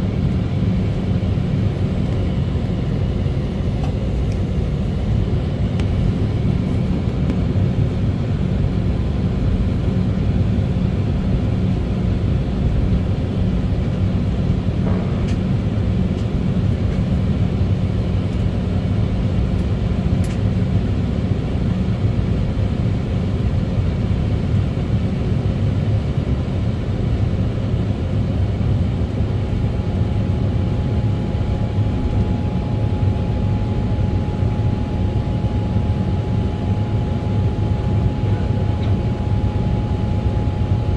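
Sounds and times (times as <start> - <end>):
aircraft cabin rumble: 0.0 - 40.9
faint steady whine: 0.0 - 40.9.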